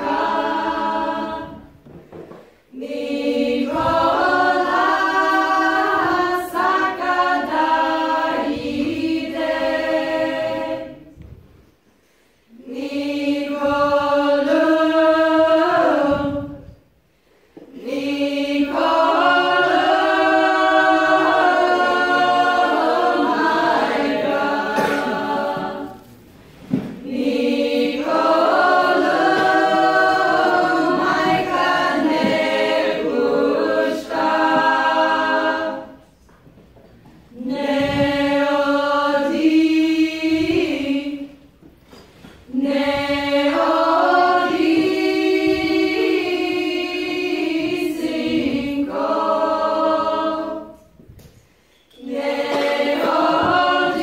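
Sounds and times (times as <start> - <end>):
women's choir singing a cappella: 0.0 - 54.0.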